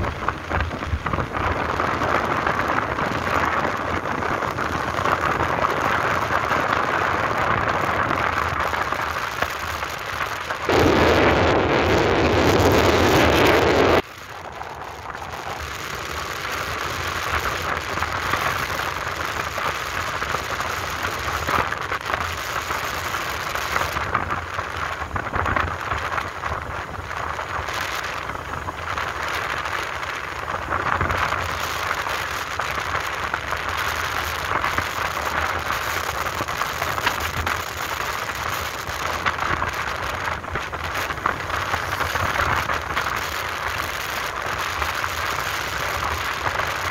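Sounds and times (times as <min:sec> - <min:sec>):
road noise: 0:00.0 - 0:46.9
wind rush on microphone: 0:00.0 - 0:46.9.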